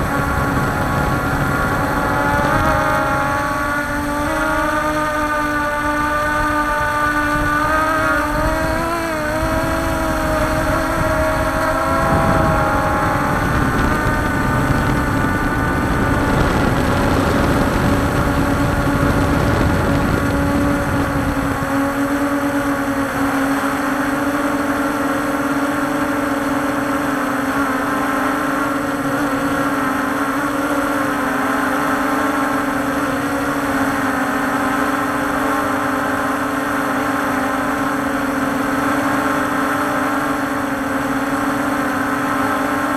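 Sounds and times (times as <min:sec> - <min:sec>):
drone propellers humming: 0:00.0 - 0:42.9.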